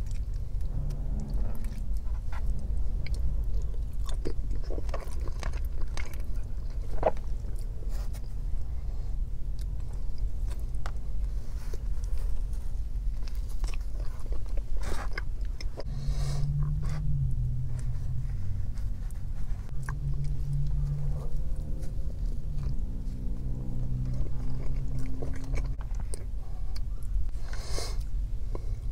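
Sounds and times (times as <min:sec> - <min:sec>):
chewing soft food: 0:00.0 - 0:28.9
low rumble: 0:00.0 - 0:28.9.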